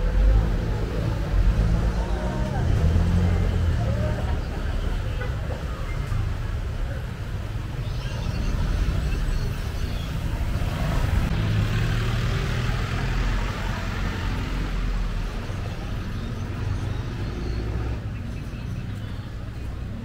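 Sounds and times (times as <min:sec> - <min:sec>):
engine rumble: 0:00.0 - 0:20.0
road and traffic hiss: 0:00.0 - 0:20.0.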